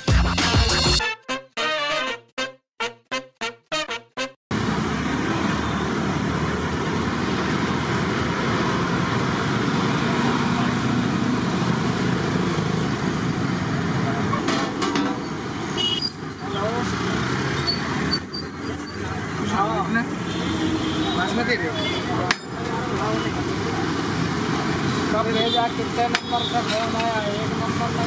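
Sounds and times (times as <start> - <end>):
street traffic: 4.5 - 28.0.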